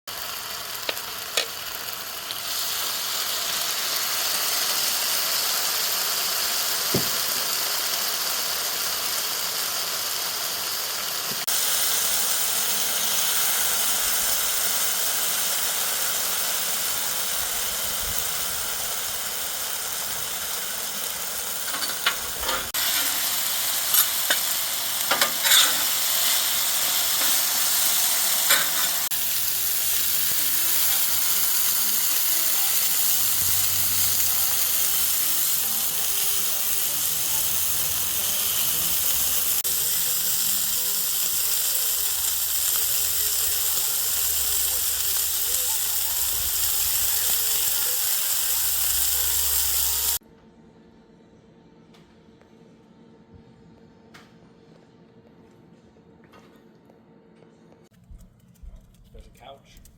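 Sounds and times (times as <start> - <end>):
food sizzling on griddle: 0.1 - 50.2.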